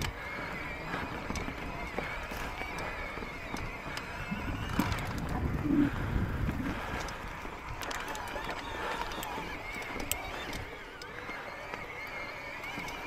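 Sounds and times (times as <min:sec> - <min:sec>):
bike rattling over bumps: 0:00.0 - 0:13.0
electric motor whine: 0:00.0 - 0:13.0
tyres and wind rumbling: 0:00.0 - 0:13.0.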